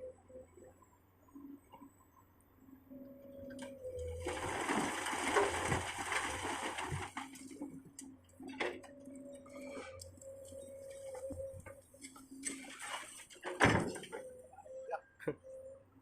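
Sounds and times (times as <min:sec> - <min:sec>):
excavator engine hum: 0:00.0 - 0:16.0.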